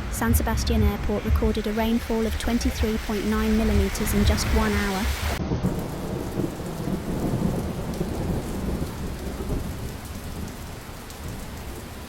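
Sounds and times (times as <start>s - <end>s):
rain falling: 0.0s - 12.0s
rolling thunder rumble: 0.0s - 12.0s.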